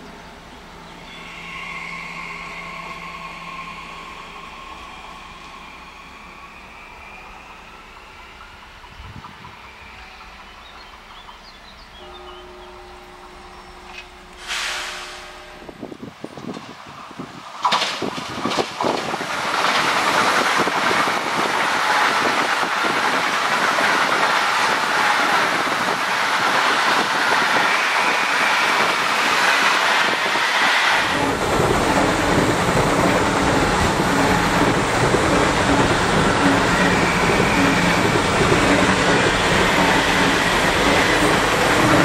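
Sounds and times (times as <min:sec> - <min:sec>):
high-speed train passing: 0:00.0 - 0:42.0.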